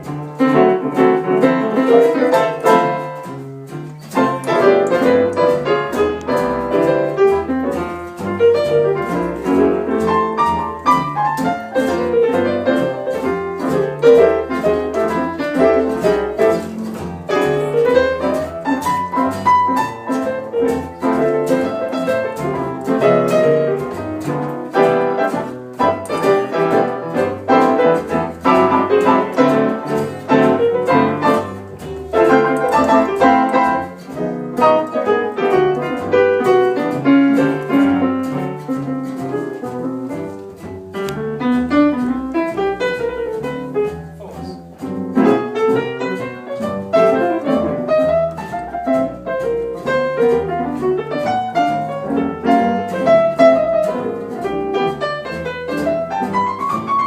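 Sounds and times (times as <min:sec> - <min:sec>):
piano playing: 0:00.0 - 0:57.0.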